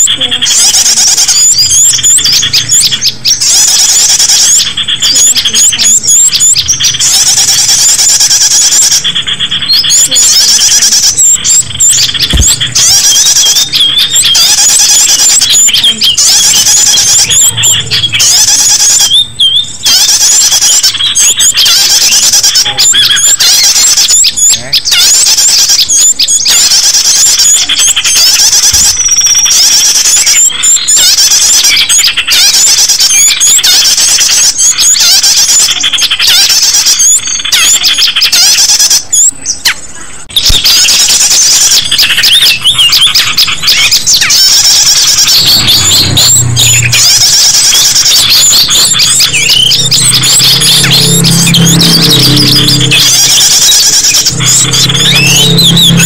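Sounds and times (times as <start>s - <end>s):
small birds chipping and whistling: 0.0s - 56.0s.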